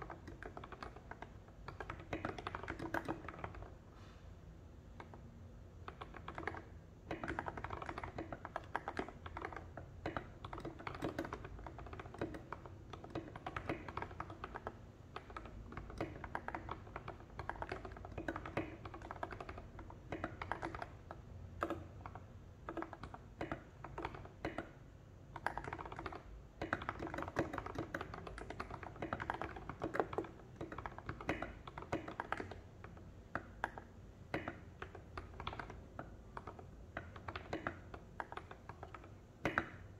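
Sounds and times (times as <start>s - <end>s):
mechanical keyboard typing: 0.0s - 3.8s, 5.8s - 39.9s.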